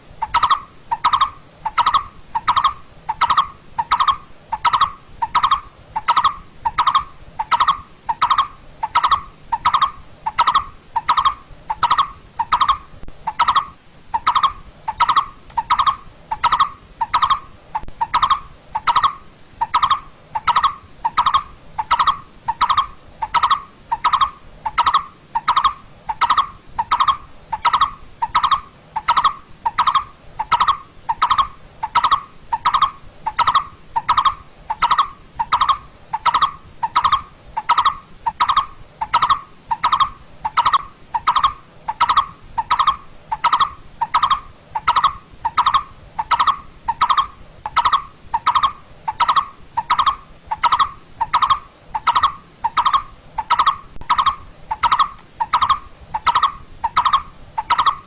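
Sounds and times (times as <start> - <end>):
coppersmith barbet calling: 0.2 - 58.0.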